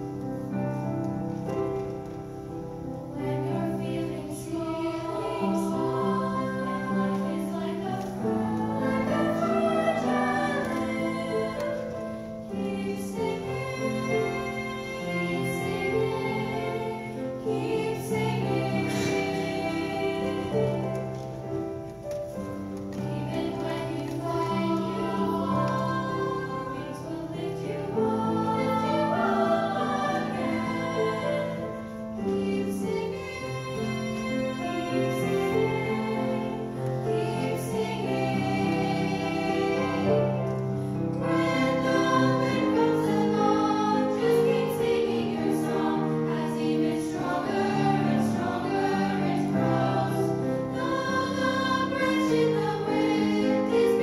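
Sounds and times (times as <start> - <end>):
piano accompaniment: 0.0 - 54.0
young choir singing: 0.0 - 54.0.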